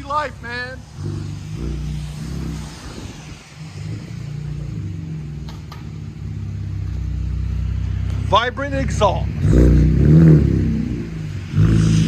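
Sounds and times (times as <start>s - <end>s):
car exhaust note: 0.0s - 12.0s.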